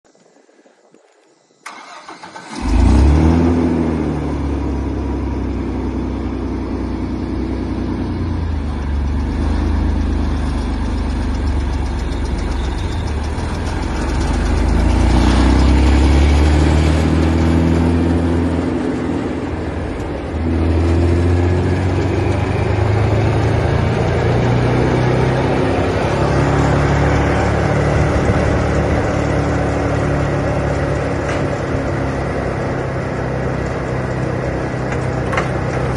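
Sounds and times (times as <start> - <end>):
wood chipper engine running: 1.8 - 35.9.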